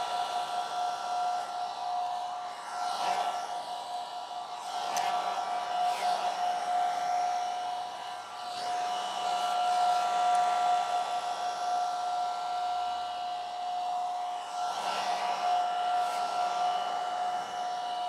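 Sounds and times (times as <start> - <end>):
hot air brush motor whine: 0.0 - 18.0.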